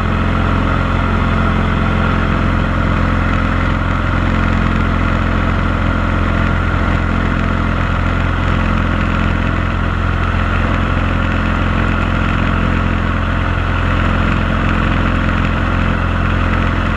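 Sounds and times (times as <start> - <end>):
light aircraft engine from cabin: 0.0 - 16.9.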